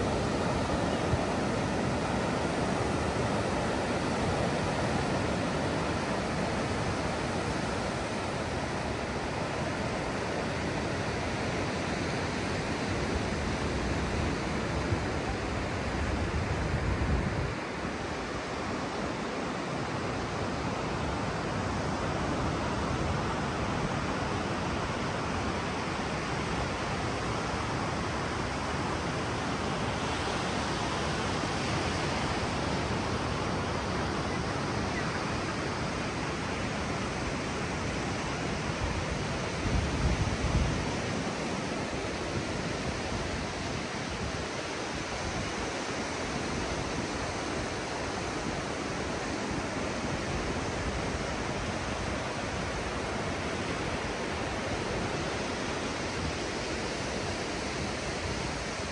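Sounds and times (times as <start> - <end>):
waves breaking on a beach: 0.0 - 58.9.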